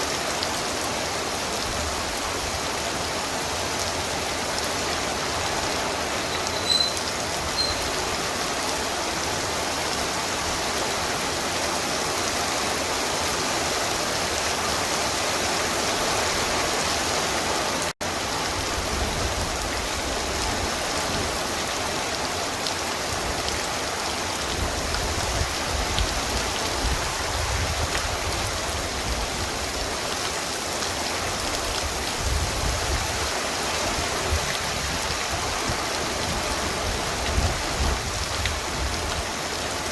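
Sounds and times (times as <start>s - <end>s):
torrential rain: 0.0s - 39.9s.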